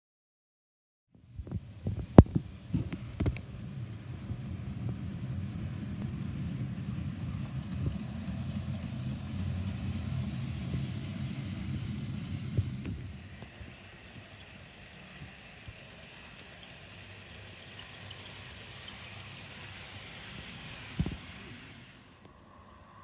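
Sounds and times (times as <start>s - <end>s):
model train rumbling on track: 1.2s - 23.0s.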